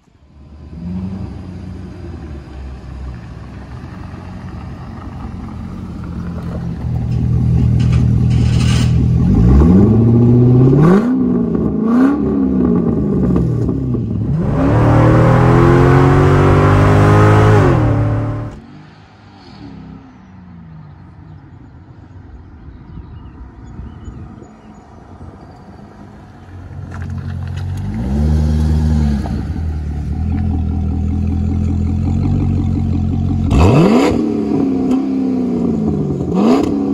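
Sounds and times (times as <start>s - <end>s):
car engine idling and revving: 0.0s - 22.4s, 24.4s - 36.9s.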